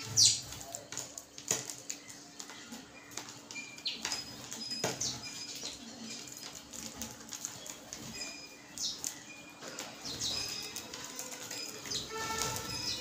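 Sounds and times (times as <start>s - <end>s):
birds pecking grain: 0.0s - 13.0s
sparrows chirping: 0.0s - 13.0s
sparrows fluttering wings: 0.0s - 13.0s.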